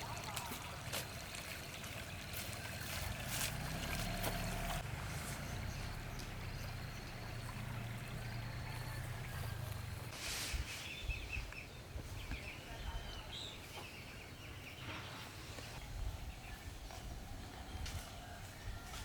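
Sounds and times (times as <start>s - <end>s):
birds calling: 0.0s - 10.1s, 10.7s - 18.4s.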